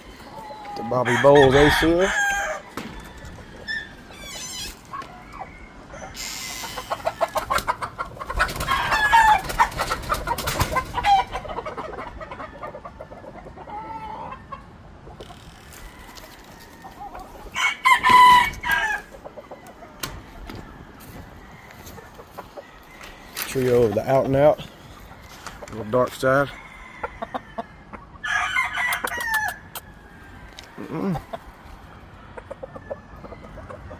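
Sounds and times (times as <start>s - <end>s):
roosters crowing: 0.0s - 14.5s, 15.3s - 33.9s
roosters clucking: 0.0s - 33.9s.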